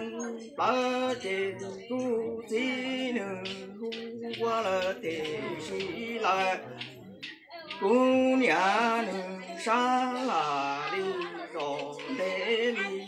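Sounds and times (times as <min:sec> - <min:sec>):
man chanting unaccompanied: 0:00.0 - 0:13.0.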